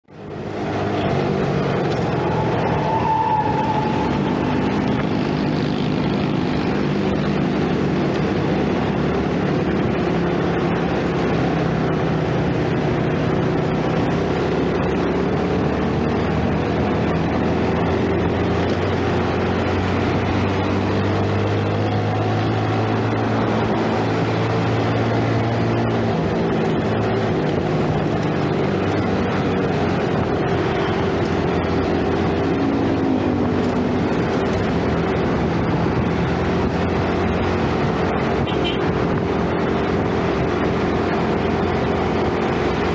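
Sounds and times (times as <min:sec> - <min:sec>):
road and wind noise: 0:00.0 - 0:42.9
motorcycle engine running: 0:03.9 - 0:42.9.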